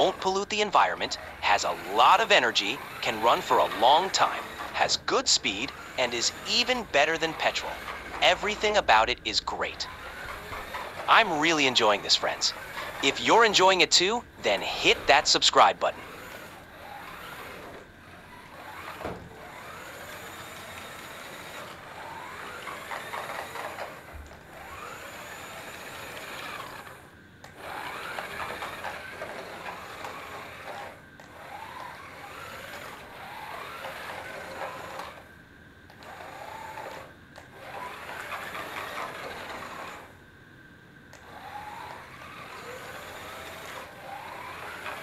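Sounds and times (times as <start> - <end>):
toy motors whining: 0.0 - 40.3, 41.1 - 45.0.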